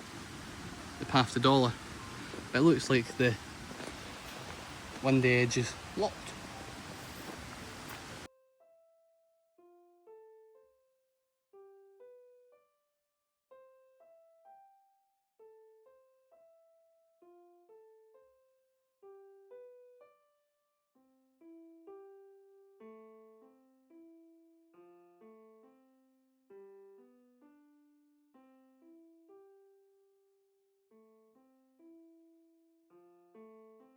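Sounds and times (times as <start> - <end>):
slow piano melody: 0.0 - 12.9, 13.5 - 30.3, 30.9 - 33.9.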